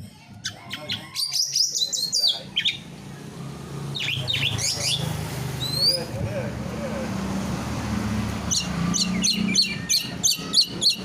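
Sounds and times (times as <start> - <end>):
songbird chirping: 0.4 - 6.2, 7.6 - 11.0.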